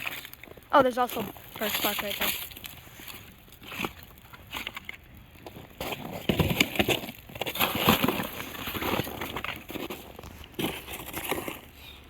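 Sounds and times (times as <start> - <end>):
campfire crackling and popping: 0.0 - 11.8.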